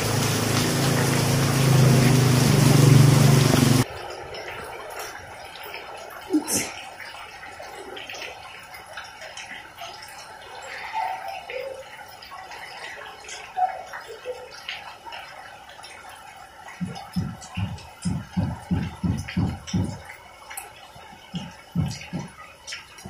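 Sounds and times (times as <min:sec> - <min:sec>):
steady rain: 0:00.0 - 0:23.0
water dripping: 0:00.0 - 0:23.0.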